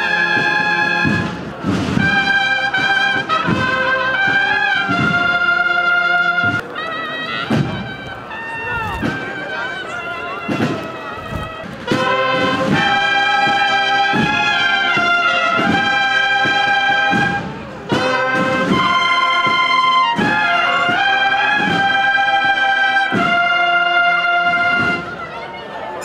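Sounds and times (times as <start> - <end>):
brass band playing march: 0.0 - 26.0.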